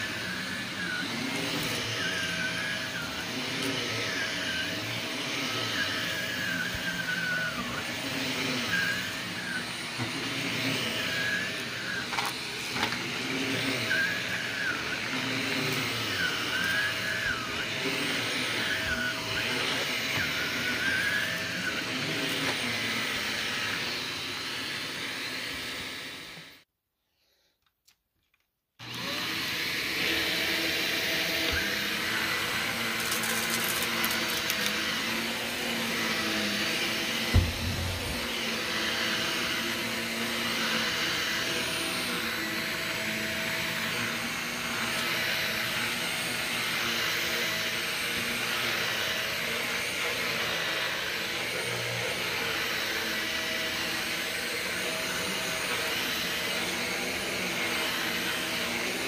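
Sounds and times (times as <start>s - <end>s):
vacuum cleaner whining on carpet: 0.0s - 27.5s, 28.8s - 59.0s.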